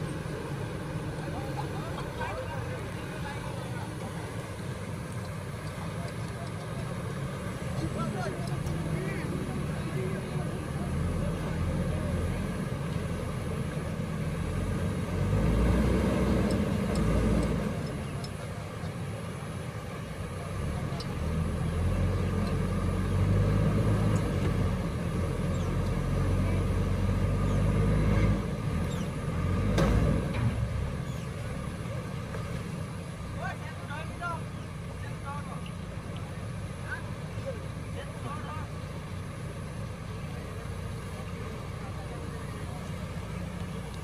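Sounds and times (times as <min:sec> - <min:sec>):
diesel engines labouring: 0:00.0 - 0:44.0.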